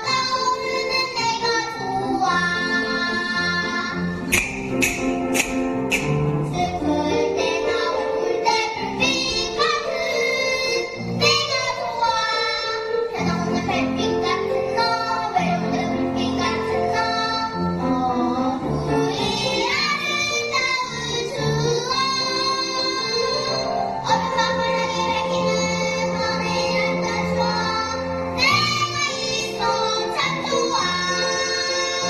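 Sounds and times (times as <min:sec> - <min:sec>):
child singing: 0:00.0 - 0:04.1, 0:06.5 - 0:32.0
instrumental accompaniment: 0:00.0 - 0:32.0.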